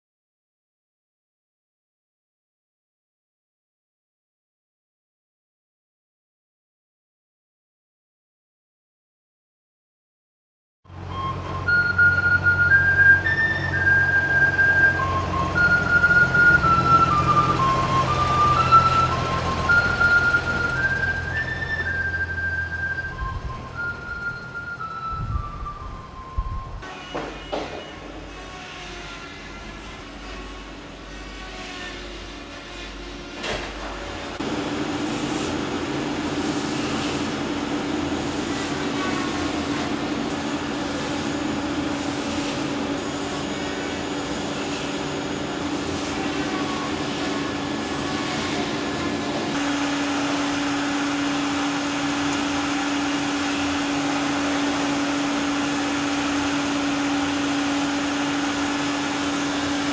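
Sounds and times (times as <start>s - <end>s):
workshop machinery humming: 10.9s - 59.9s.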